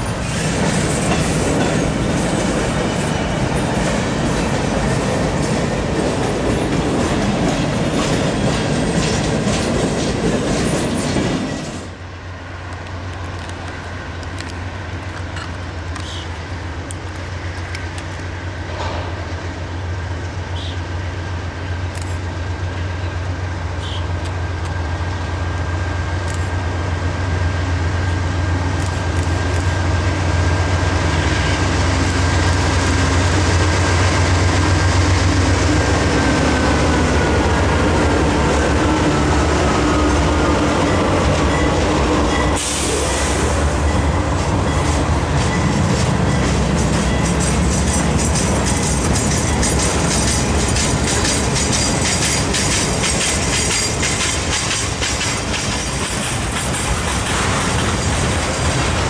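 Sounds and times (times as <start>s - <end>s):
diesel locomotive rumble: 0.0s - 59.0s.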